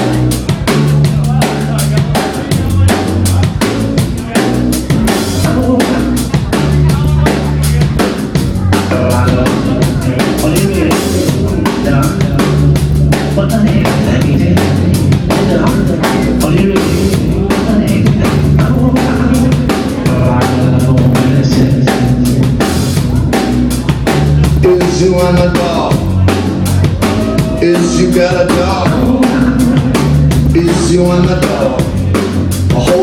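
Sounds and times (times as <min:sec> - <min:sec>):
drum kit beat: 0:00.0 - 0:33.0
held bass notes: 0:00.0 - 0:33.0.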